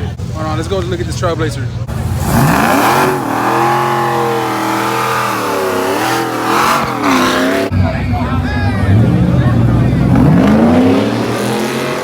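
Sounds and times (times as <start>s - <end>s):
drag racing engine revving: 1.9s - 12.0s.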